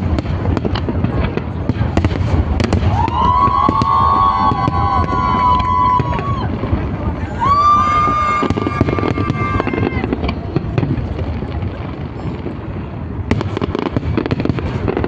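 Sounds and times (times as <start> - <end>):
fireworks crackling rumble: 0.0 - 15.0
fireworks cracks and pops: 0.0 - 15.0.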